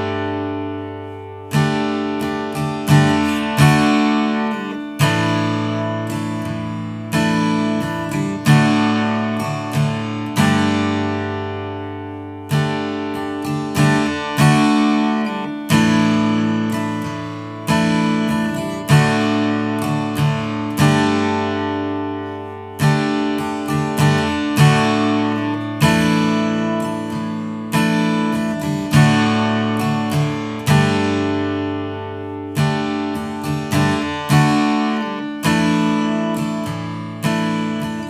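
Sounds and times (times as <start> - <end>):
acoustic guitar strumming chords: 0.0 - 38.0.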